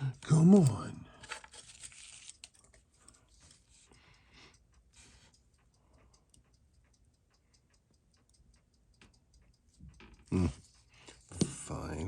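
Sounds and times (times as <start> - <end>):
watch movement ticking rapidly: 1.8 - 12.0.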